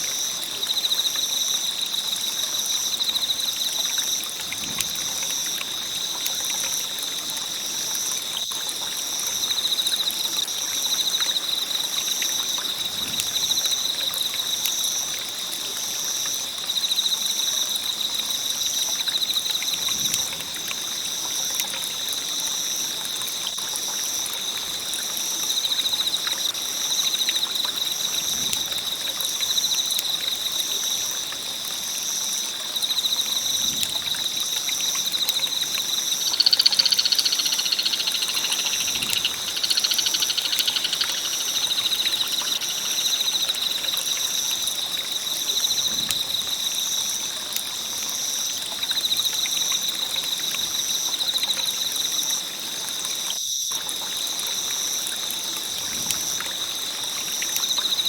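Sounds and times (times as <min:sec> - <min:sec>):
campfire hissing and crackling: 0:00.0 - 0:58.0
night insects chirring: 0:00.0 - 0:58.0.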